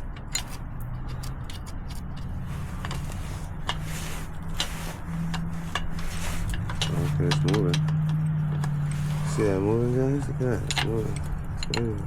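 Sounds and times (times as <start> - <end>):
metal clicks and creaks: 0.0 - 12.0.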